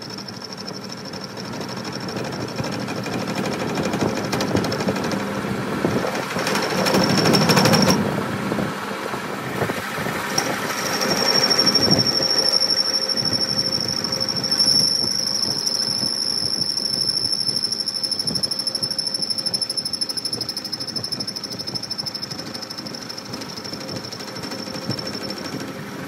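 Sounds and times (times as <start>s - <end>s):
power tool rattling and whining: 0.0s - 8.2s, 9.8s - 26.0s.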